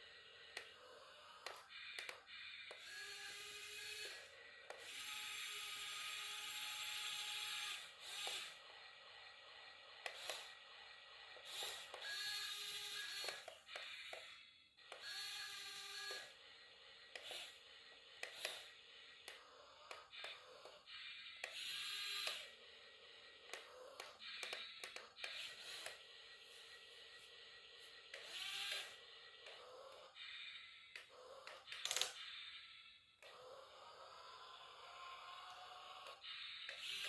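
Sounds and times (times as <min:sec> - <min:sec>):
small gear motors whining: 0:00.0 - 0:37.0.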